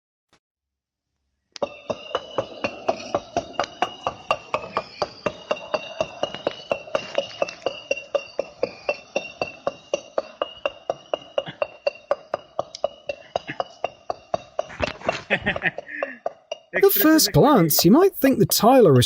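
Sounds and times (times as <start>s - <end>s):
rapid metallic clinking taps: 1.6s - 19.0s.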